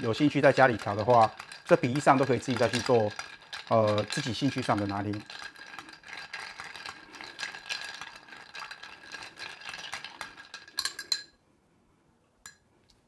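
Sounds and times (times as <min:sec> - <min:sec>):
ice clattering in stirred glass: 0:00.0 - 0:11.3.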